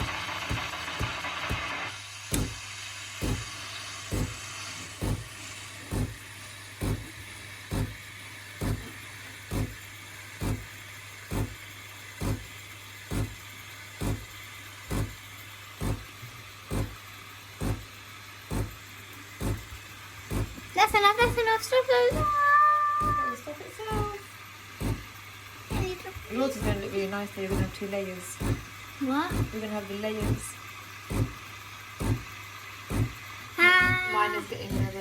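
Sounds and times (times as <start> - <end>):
espresso machine steam pump humming: 0.0 - 35.0
steam hiss: 0.0 - 35.0.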